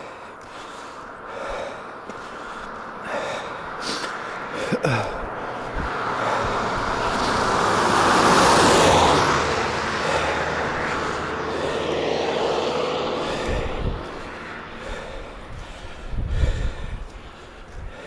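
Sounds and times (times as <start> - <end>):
vehicle passing by: 0.0 - 18.0.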